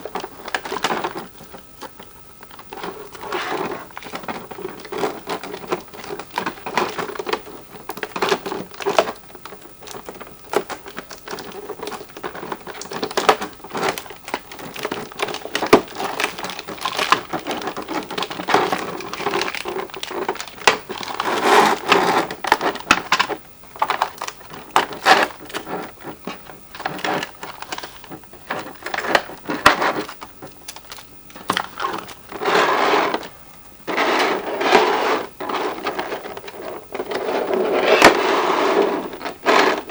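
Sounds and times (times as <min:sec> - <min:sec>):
plastic and cardboard rustling: 0:00.0 - 0:39.9.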